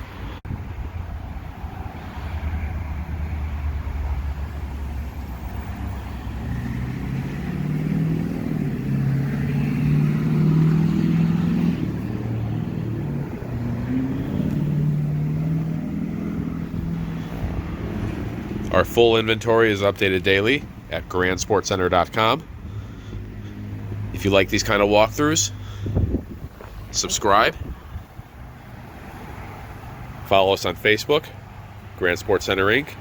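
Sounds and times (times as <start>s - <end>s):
boat engine idling and revving: 0.0s - 33.0s.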